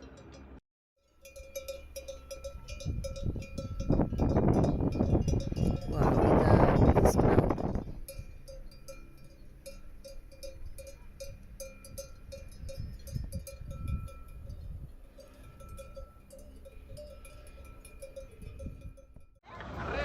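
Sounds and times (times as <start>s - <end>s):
cowbells clanking: 0.0s - 19.3s.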